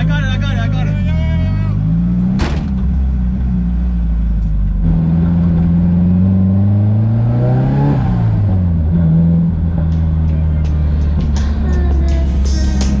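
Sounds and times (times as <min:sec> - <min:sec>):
turbocharged car engine accelerating: 0:00.0 - 0:13.0.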